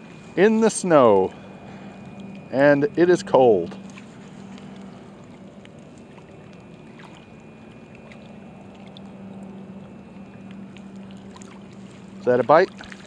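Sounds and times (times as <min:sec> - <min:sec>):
faint low hum: 0:00.0 - 0:13.0
small waves lapping: 0:00.0 - 0:13.0.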